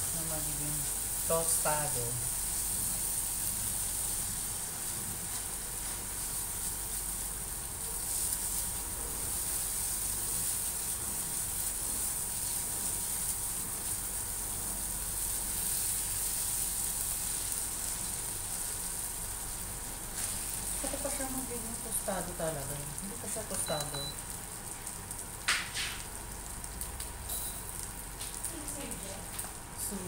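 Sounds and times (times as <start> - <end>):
meat sizzling in a pan: 0.0 - 30.0.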